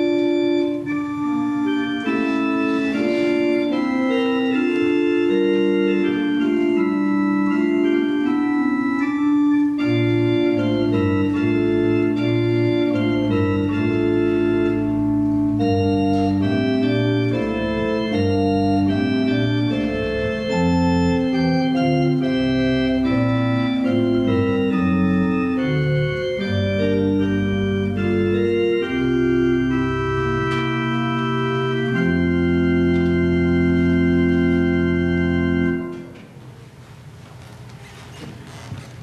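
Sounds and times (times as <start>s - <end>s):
church organ chords: 0.0s - 36.4s.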